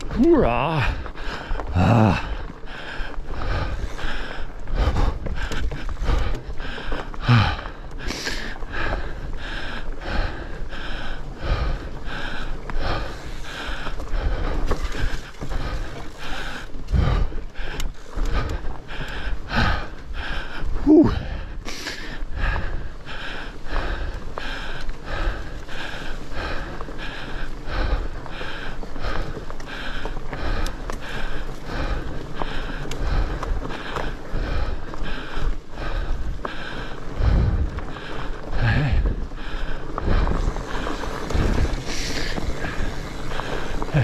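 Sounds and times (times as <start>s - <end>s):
bike rolling rumble: 0.0s - 44.0s
heavy rapid breathing: 0.0s - 44.0s.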